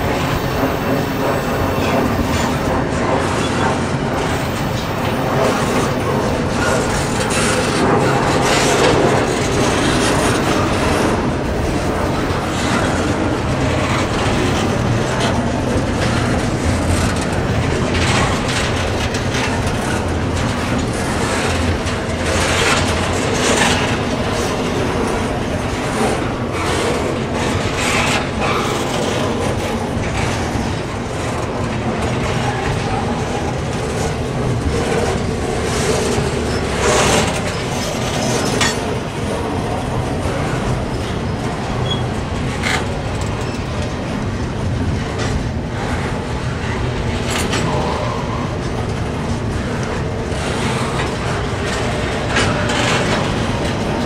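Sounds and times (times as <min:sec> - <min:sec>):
train rumbling past: 0:00.0 - 0:54.0
wheels clicking over rail joints: 0:00.0 - 0:54.0.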